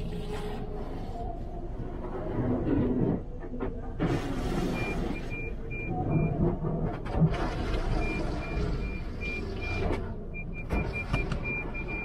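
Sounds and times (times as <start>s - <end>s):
car wash machinery rumble: 0.0s - 12.0s.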